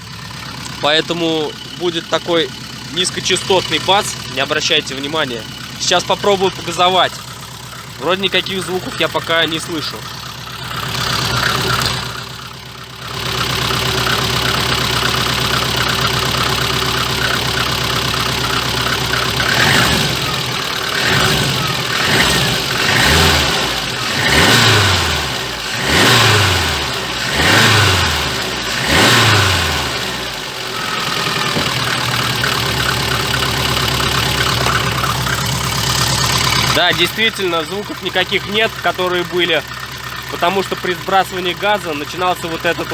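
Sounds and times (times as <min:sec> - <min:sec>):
car engine idling and revving: 0:00.0 - 0:42.9
low bass from muffler: 0:00.0 - 0:42.9.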